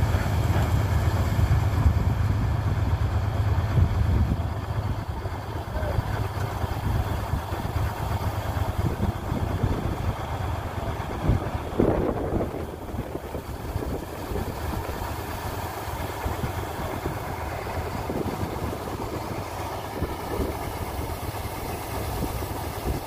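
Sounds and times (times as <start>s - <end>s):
combine harvester engine hum: 0.0s - 23.0s.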